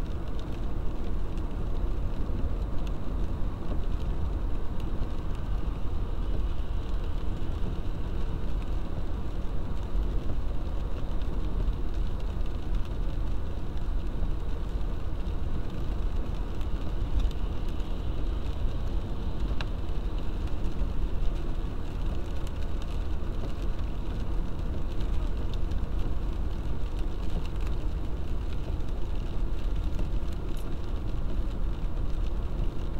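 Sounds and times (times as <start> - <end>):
car road noise from inside cabin: 0.0 - 32.9.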